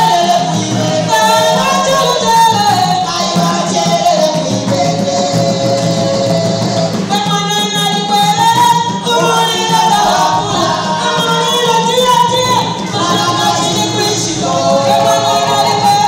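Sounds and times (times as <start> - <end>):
large hand drums beating: 0.0 - 16.0
voices singing a melody: 0.0 - 16.0.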